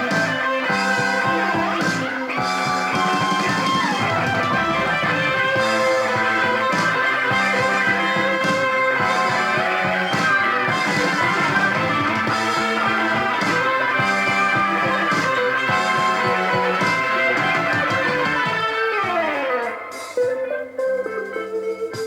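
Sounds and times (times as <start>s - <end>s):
instrumental rock music: 0.0s - 22.0s.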